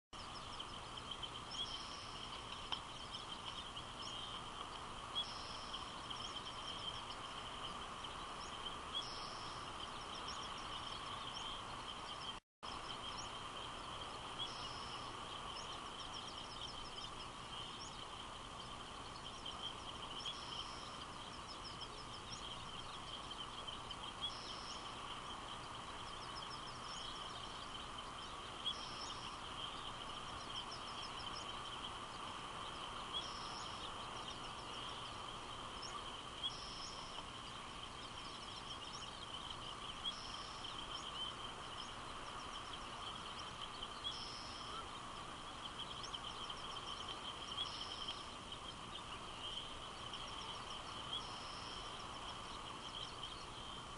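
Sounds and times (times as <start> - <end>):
constant high hum: 0.2 - 53.9
small bird calling: 0.2 - 53.9
steady hiss: 0.2 - 53.9.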